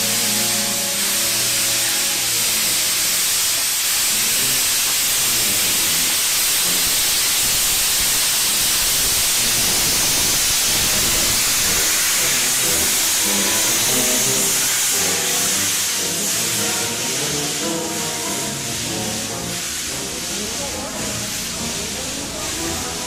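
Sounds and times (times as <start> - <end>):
steam locomotive hissing steam: 0.0 - 23.0.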